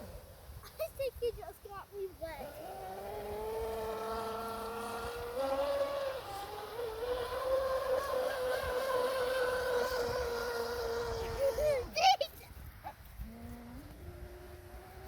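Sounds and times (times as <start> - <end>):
model boat motor whine: 0.0 - 0.6, 2.3 - 12.0, 13.1 - 15.0.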